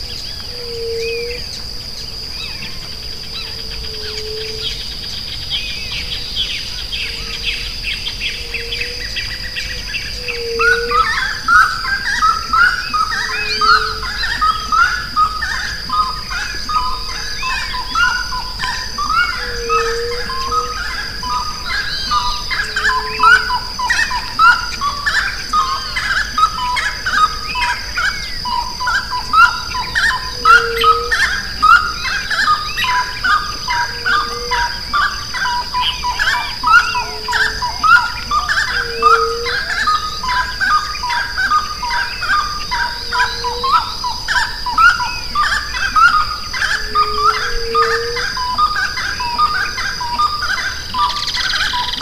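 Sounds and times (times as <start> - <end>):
birds chirping and whistling: 0.0 - 52.0.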